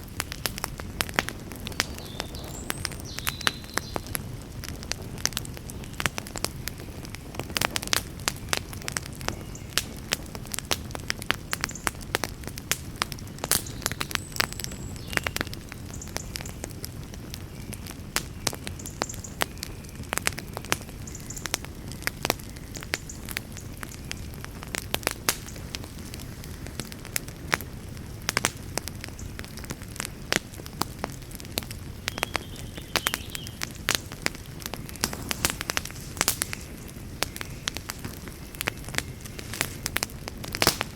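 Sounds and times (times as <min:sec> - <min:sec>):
campfire crackling and popping: 0:00.0 - 0:40.9
low rumble of burning: 0:00.0 - 0:40.9.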